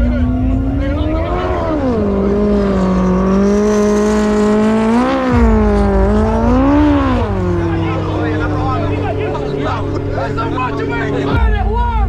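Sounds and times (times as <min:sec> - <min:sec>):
jet ski engine at high revs: 0:00.0 - 0:11.4.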